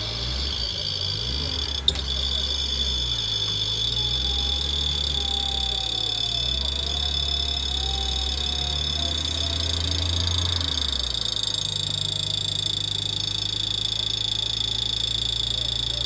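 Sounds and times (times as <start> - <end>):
high-pitched whine: 0.0 - 16.0
vehicle engine rumbling: 0.0 - 16.0
sharp click: 1.2 - 15.6.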